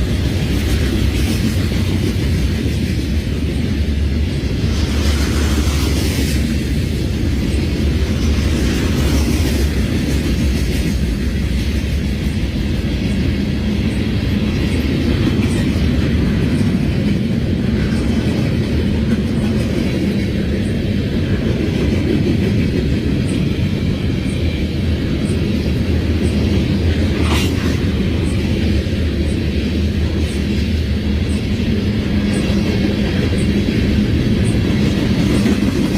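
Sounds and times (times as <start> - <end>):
freight train rumbling by: 0.0 - 35.9.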